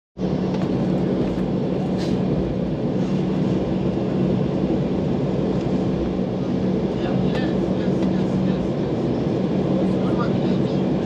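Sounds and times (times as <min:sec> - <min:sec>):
airliner cabin rumble: 0:00.2 - 0:11.0.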